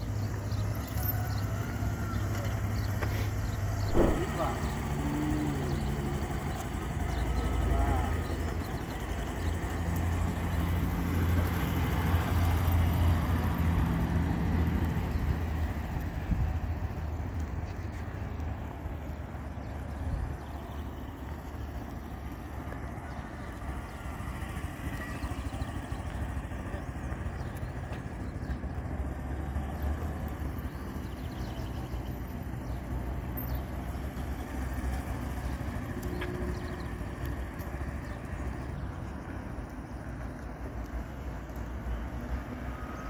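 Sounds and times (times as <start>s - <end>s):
motorcycle engine running: 0.0s - 13.6s, 18.7s - 41.6s.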